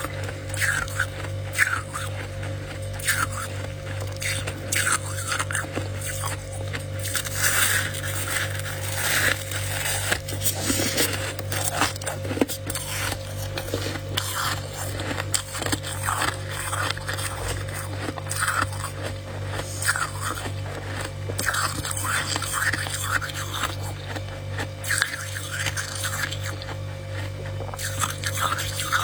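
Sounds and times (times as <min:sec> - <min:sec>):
frost crunching and scraping: 0:00.0 - 0:29.0
steady low hum: 0:00.0 - 0:29.0.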